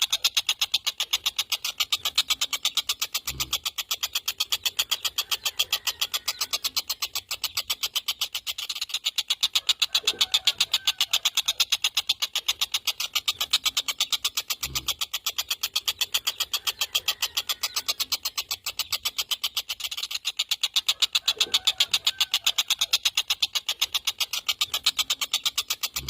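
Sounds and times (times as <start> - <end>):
kingfisher chattering call: 0.0 - 26.0.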